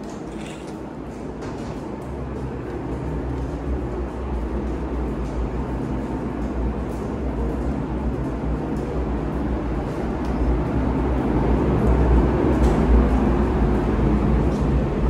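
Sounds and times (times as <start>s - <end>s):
machinery humming and rumbling: 0.0s - 15.0s.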